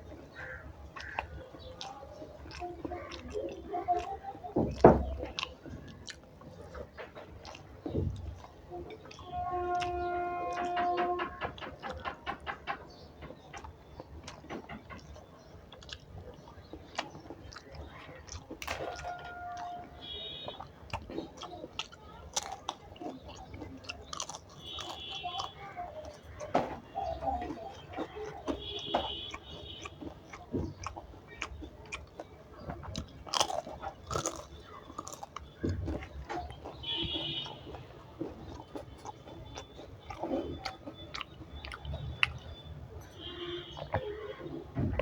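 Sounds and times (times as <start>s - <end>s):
person chewing food: 0.0s - 45.0s
soft clicks and small crunches: 0.2s - 45.0s.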